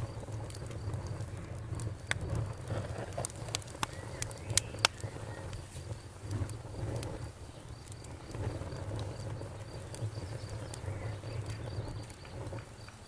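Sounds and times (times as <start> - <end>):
campfire crackling and popping: 0.0 - 13.0
crickets chirping: 0.0 - 13.0.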